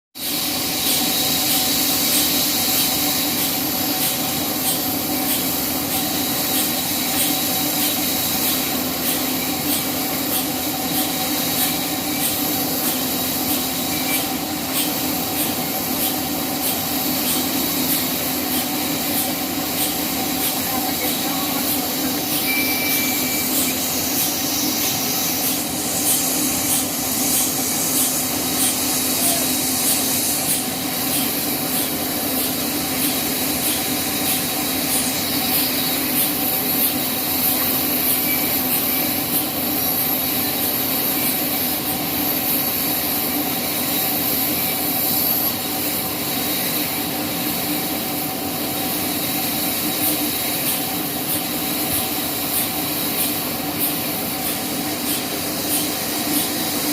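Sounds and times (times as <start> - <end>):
sawmill saw running: 0.2 - 56.9.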